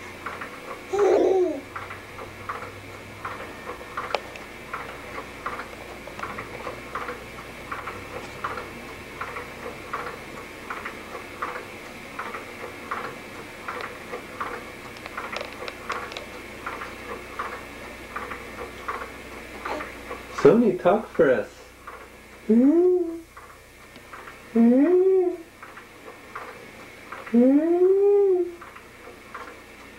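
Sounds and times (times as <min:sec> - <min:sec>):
baby swing ticking: 0:00.1 - 0:29.7.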